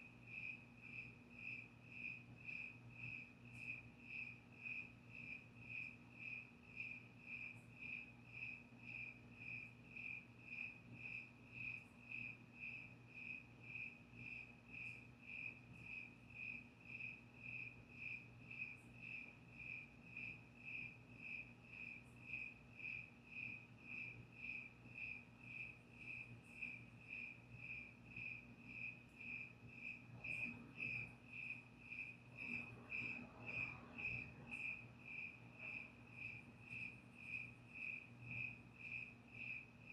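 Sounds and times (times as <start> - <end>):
cricket chirping: 0.0 - 39.9
faint low hum: 0.0 - 39.9.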